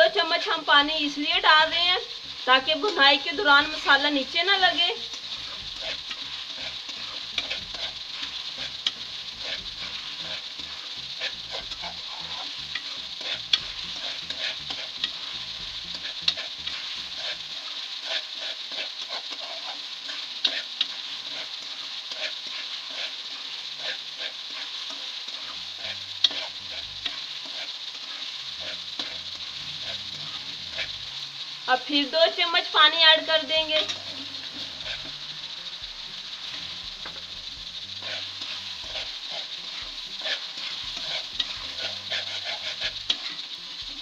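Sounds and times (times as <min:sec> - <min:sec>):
food sizzling in metal pan: 0:00.0 - 0:44.0
spatula stirring and scraping: 0:01.7 - 0:31.5, 0:33.4 - 0:44.0.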